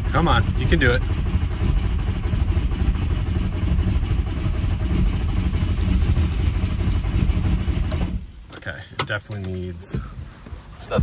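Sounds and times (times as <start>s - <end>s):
diesel engine starter cranking: 0.0s - 9.7s.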